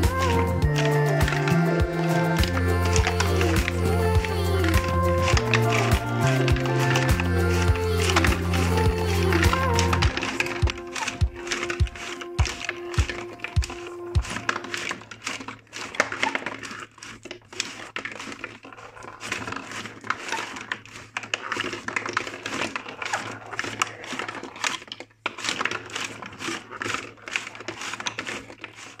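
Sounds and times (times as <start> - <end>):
glass marbles clicking and rattling: 0.0 - 29.0.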